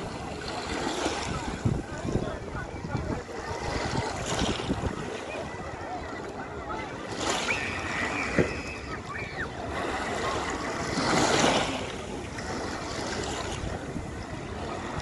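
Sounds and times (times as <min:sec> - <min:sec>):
waves washing over pebbles: 0:00.0 - 0:05.2, 0:07.1 - 0:15.0
wind on microphone: 0:00.0 - 0:15.0.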